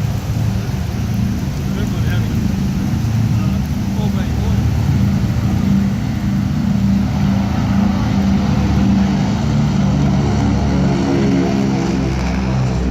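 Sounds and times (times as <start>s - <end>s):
propeller engines droning: 0.0s - 12.9s.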